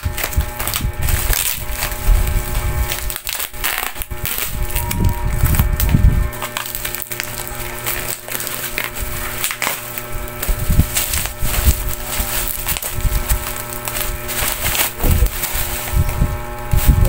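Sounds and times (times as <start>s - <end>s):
bubble wrap crackling: 0.0s - 17.0s.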